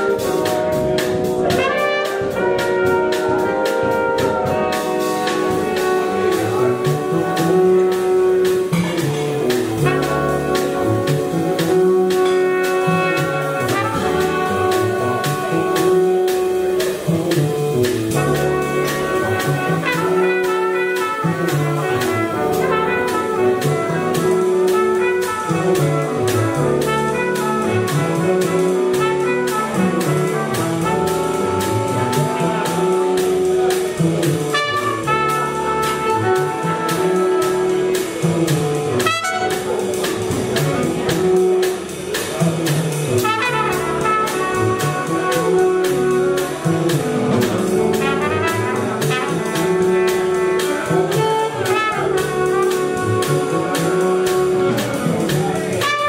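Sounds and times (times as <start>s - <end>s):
cymbal beat: 0.0s - 56.0s
jazz band playing: 0.0s - 56.0s
trumpet and saxophone: 0.0s - 56.0s.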